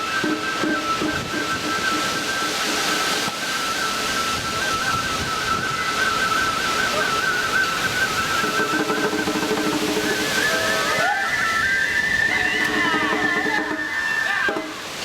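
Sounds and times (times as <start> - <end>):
bamboo flute melody: 0.0 - 15.0
lower held flute tones: 0.0 - 15.0
wind noise on microphone: 0.0 - 15.0.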